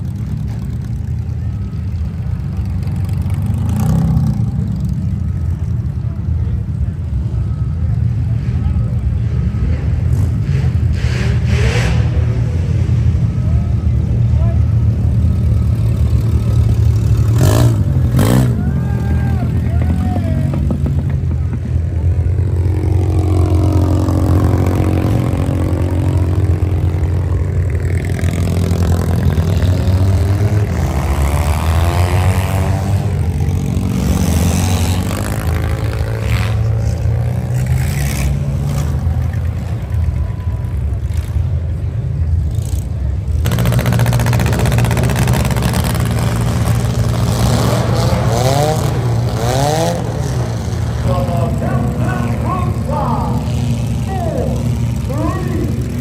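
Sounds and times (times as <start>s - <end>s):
minivan engines revving: 0.0s - 56.0s.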